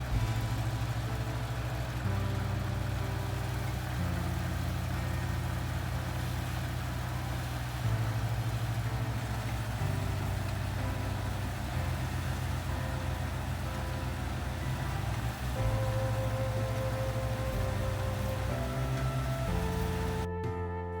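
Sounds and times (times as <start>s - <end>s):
combine harvester engine running: 0.0s - 20.3s.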